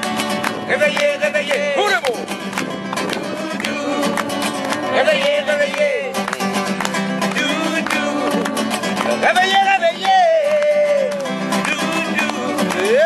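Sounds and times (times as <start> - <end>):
guitar strumming: 0.0 - 13.0
men singing: 0.6 - 2.1, 3.0 - 13.0.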